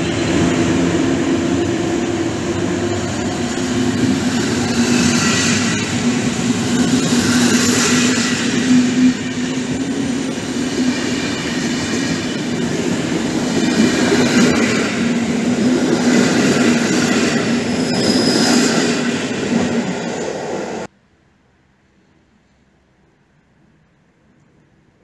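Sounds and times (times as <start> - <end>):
train carriages rumbling past: 0.0 - 20.9.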